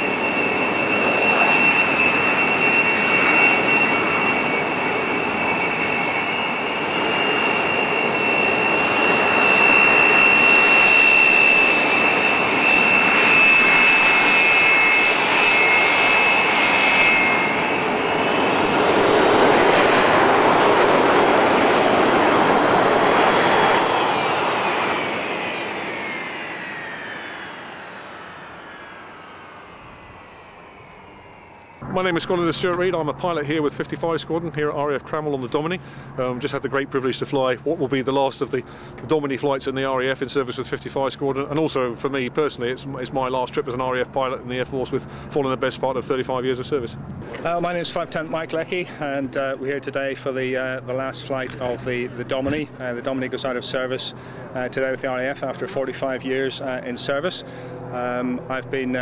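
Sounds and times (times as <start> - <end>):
jet engines roaring with high whine: 0.0 - 59.0.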